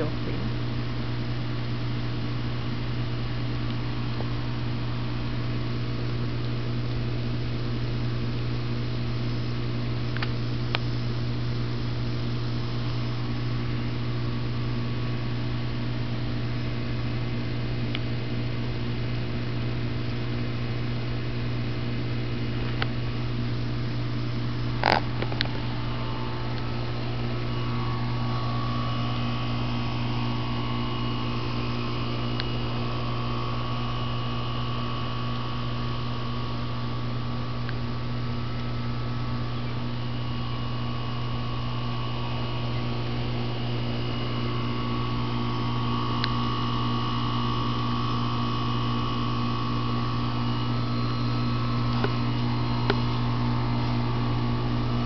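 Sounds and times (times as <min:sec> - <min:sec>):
air conditioner hum: 0:00.0 - 0:55.0.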